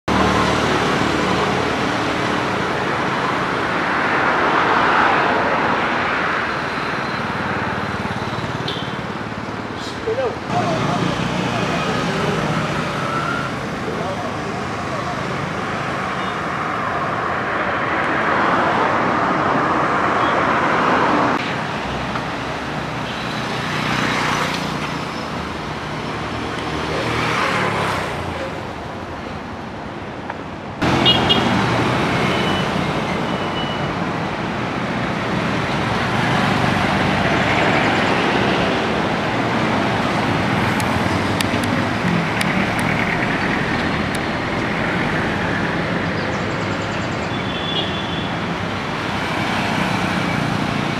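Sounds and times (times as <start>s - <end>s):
cars and motorcycles passing: 0.1s - 50.9s.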